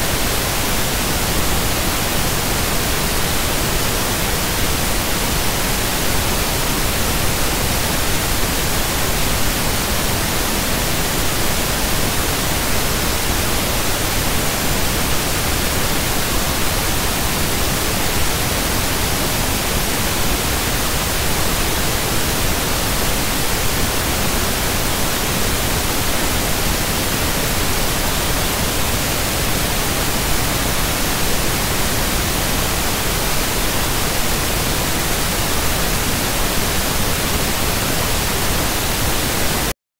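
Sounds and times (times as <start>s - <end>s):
static hiss: 0.0s - 39.7s.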